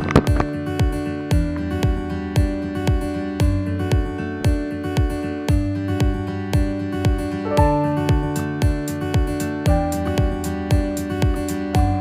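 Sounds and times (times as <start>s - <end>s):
guitar-led music with beat: 0.0s - 12.0s.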